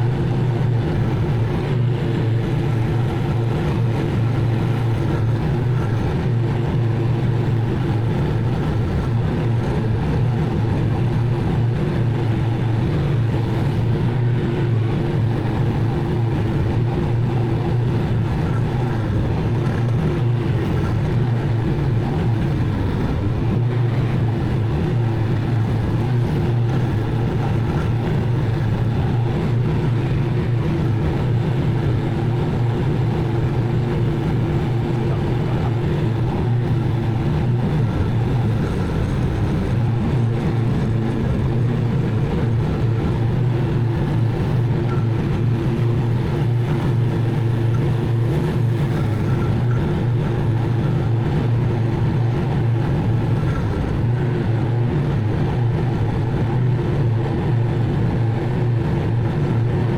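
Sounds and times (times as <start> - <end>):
mower engine droning: 0.0 - 59.9.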